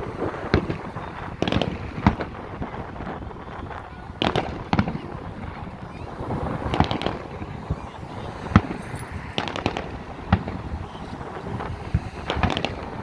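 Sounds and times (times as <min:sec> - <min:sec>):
fireworks bangs: 0:00.0 - 0:13.0
fireworks crackling pops: 0:00.0 - 0:13.0.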